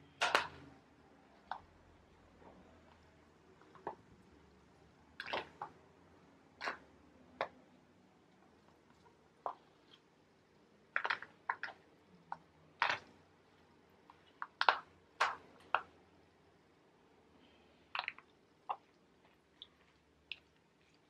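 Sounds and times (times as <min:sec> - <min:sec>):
wet squishes of food: 0:01.3 - 0:16.7, 0:17.4 - 0:21.0.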